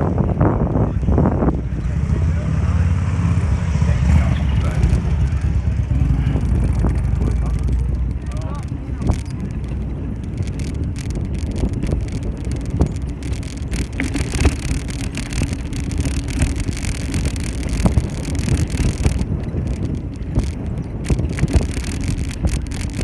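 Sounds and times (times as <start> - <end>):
bike rattling and knocking: 0.0 - 23.0
rolling tyres: 0.0 - 23.0
wind on microphone: 0.0 - 23.0.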